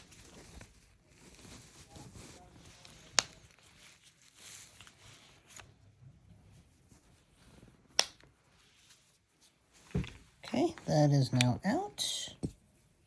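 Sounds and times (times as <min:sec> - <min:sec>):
hands rubbing and fiddling: 0:00.0 - 0:13.0.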